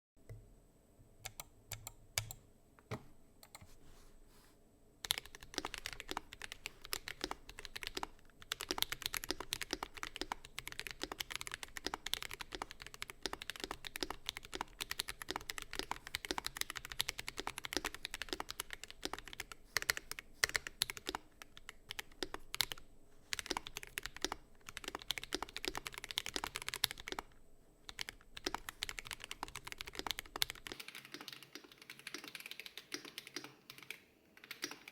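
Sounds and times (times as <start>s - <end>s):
mechanical keyboard typing: 1.2s - 2.4s, 5.0s - 34.9s.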